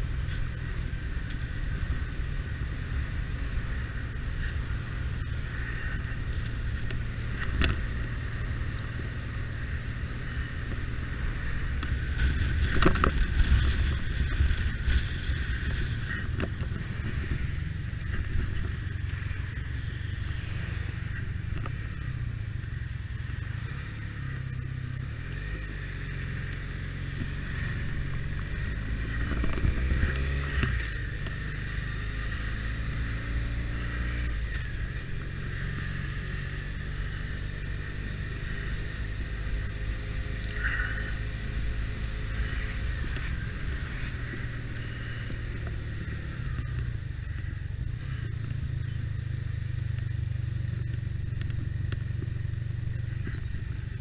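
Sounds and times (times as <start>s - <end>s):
motorcycle engine rumble: 0.0s - 54.0s.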